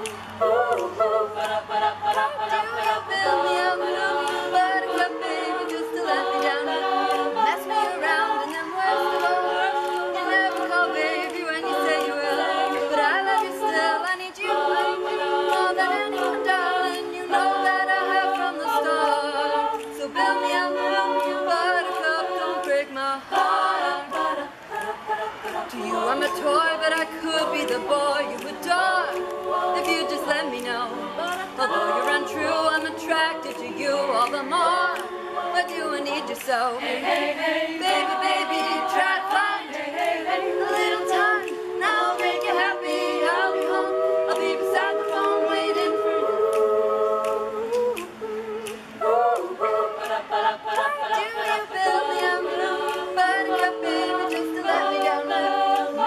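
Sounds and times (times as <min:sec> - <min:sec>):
women singing a cappella harmony: 0:00.0 - 0:56.0.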